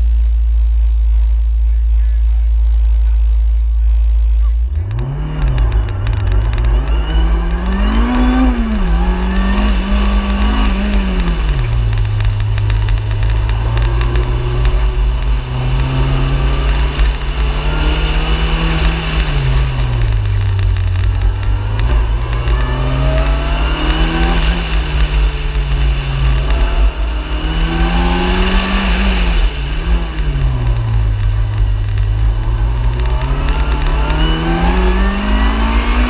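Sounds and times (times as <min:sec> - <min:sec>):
heavy low rumble: 0:00.0 - 0:36.0
car engine revving hard: 0:04.7 - 0:36.0.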